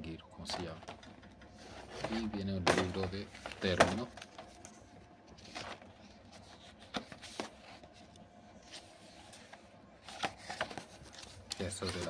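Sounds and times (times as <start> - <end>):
book pages rustling: 0.5 - 12.0.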